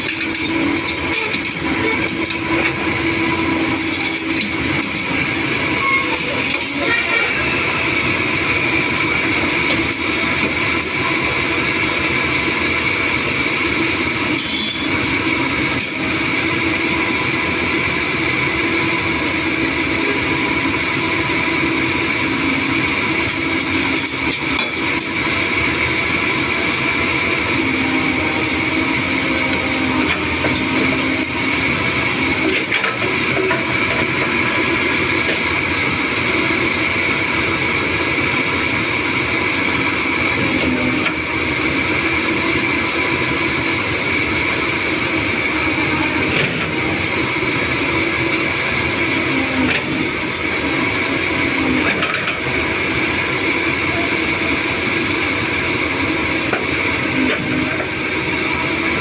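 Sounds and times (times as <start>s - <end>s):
excavator engine and hydraulics whine: 0.0s - 59.0s.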